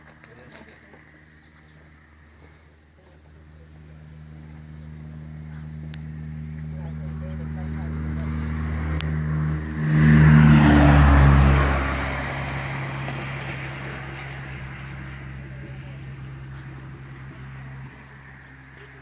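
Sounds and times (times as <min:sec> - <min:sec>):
vehicle engine revving: 0:03.6 - 0:19.0.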